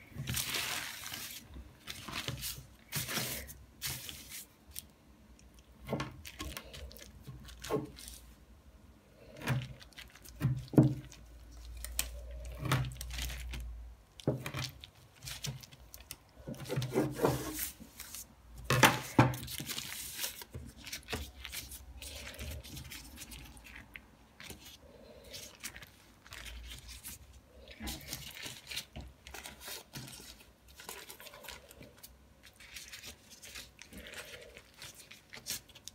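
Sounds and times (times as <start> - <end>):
baking paper rustling: 0.0 - 4.9, 5.8 - 8.4, 9.2 - 35.9.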